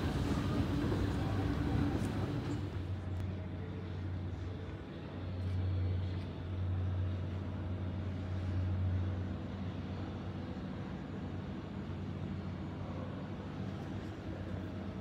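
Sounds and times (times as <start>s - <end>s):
low mechanical droning hum: 0.0s - 15.0s.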